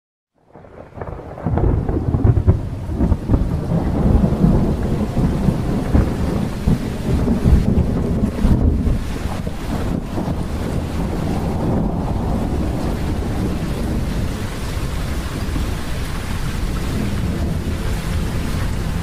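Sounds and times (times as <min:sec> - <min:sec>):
rain hiss: 0:00.5 - 0:19.0
rolling thunder rumble: 0:00.5 - 0:19.0.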